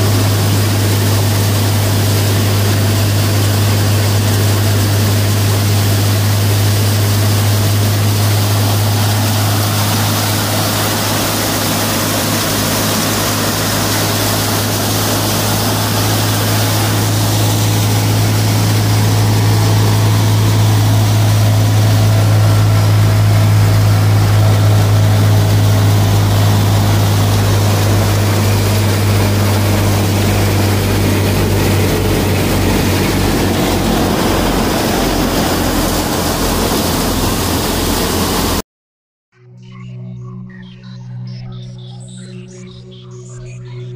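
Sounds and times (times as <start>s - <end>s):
thresher rushing whirr: 0.0s - 38.6s
tractor engine drone: 0.0s - 38.6s, 39.4s - 43.9s.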